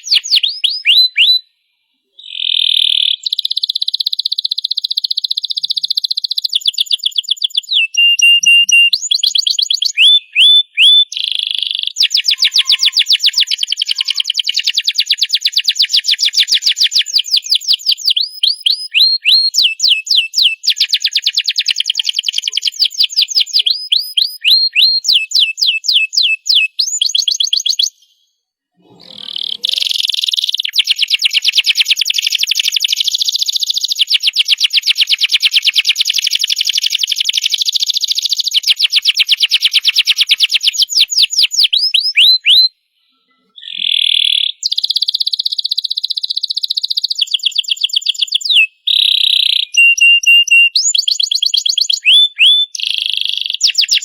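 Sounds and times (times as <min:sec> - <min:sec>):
canary singing: 0:00.0 - 0:01.5, 0:02.2 - 0:42.7, 0:43.4 - 0:54.0.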